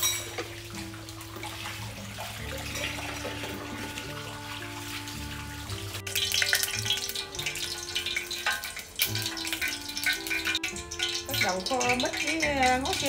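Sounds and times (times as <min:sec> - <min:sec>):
background music low notes: 0:00.0 - 0:13.0
tap water running into sink: 0:00.0 - 0:13.0.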